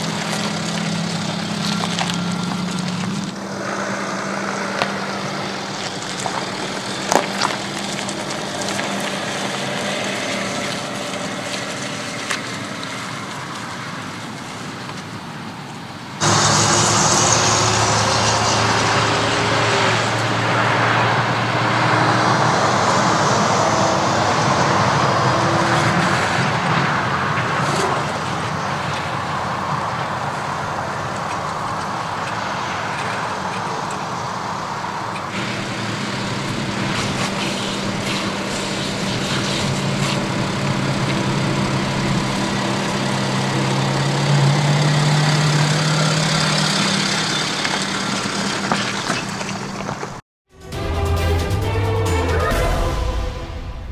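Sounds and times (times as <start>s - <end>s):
diesel engine droning: 0.0s - 53.9s.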